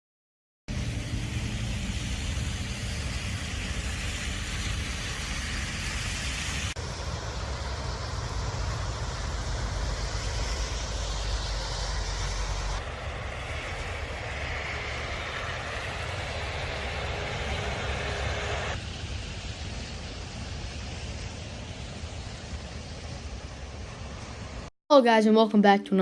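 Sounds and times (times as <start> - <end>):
road traffic rumble: 0.7 - 24.7.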